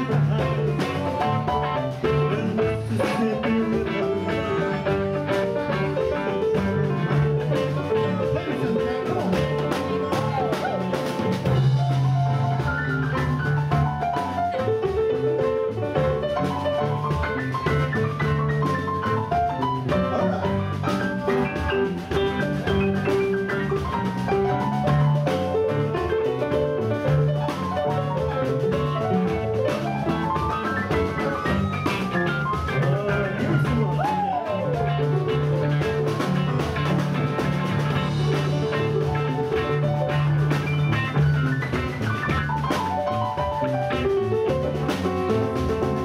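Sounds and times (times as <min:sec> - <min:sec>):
bending melody line: 0:00.0 - 0:46.0
live blues band playing: 0:00.0 - 0:46.0.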